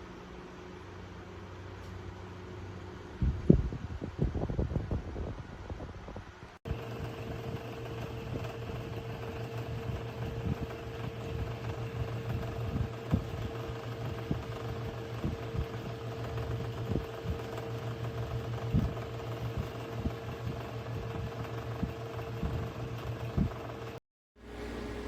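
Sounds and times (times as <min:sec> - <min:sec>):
electric fan motor hum: 0:00.0 - 0:25.0.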